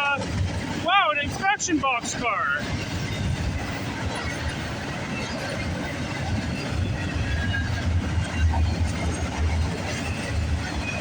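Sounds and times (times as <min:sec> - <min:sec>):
freight train wheels clacking: 0:00.0 - 0:11.0.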